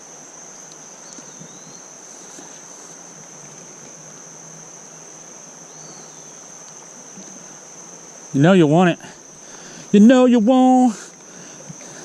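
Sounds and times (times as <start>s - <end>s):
creek water rushing: 0.0s - 12.0s
high-pitched insect trill: 0.0s - 12.0s.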